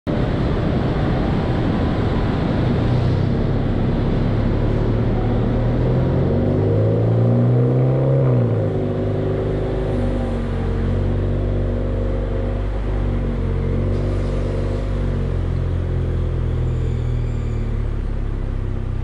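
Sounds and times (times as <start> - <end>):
car exhaust driving slowly: 0.1 - 19.0.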